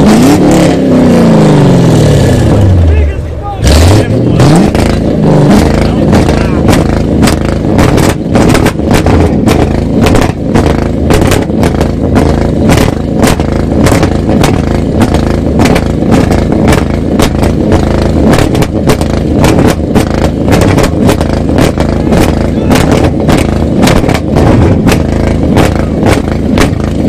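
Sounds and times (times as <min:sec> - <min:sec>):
car engines revving: 0:00.0 - 0:27.0
sharp exhaust cracks: 0:00.0 - 0:27.0.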